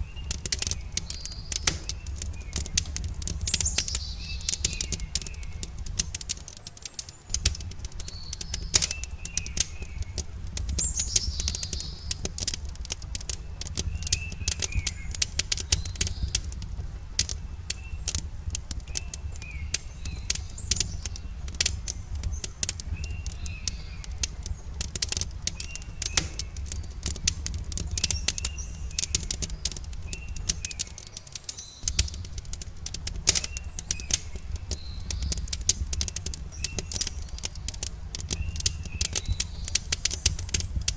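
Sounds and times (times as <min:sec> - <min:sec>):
birds chirping: 0:00.0 - 0:40.9
campfire crackling and popping: 0:00.0 - 0:40.9.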